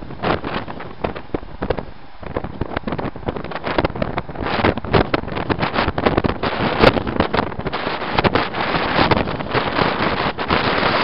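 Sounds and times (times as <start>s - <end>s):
road and engine noise: 0.0s - 11.0s
wind buffeting microphone: 0.0s - 11.0s.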